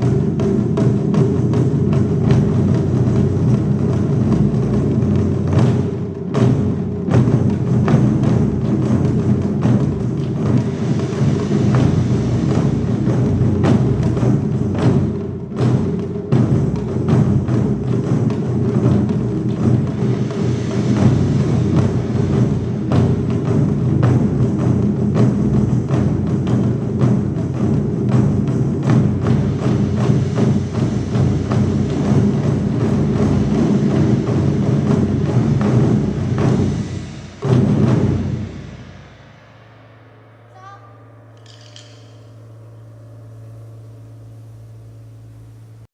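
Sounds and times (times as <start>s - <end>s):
sharp clicking drum strokes: 0.0s - 45.9s
taiko drums played fast: 0.0s - 45.9s.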